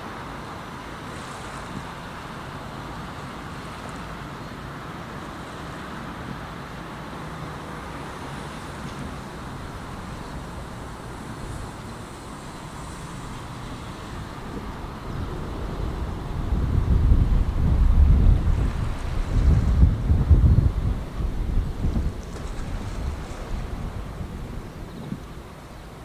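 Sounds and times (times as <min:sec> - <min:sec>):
wind noise on microphone: 0:00.0 - 0:26.0.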